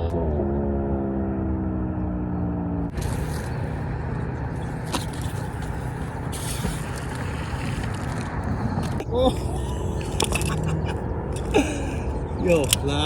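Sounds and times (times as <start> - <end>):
low traffic rumble: 0.0 - 13.0
passing vehicle engine hum: 0.0 - 13.0.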